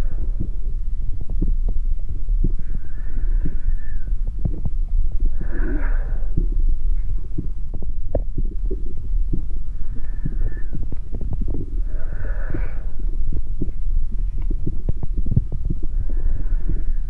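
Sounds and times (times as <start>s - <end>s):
amplified heartbeat rumble: 0.0s - 17.0s.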